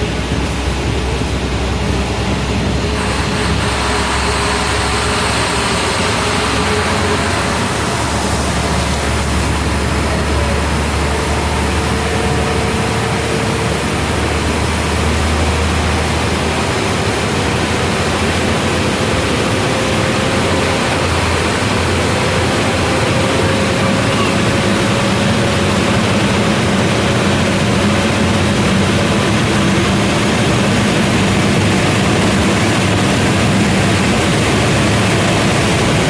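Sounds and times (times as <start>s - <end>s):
ship engine drone: 0.0s - 36.0s
steady rushing noise: 0.0s - 36.0s.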